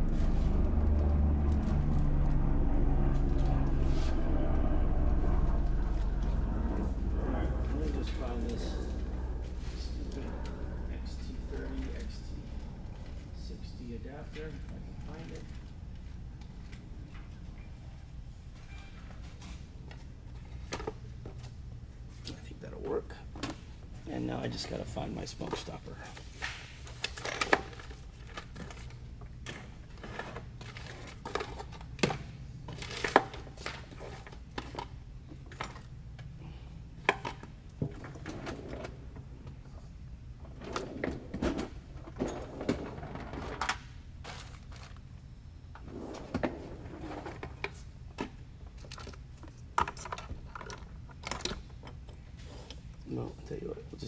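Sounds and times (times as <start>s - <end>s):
low background hum: 0.0s - 54.0s.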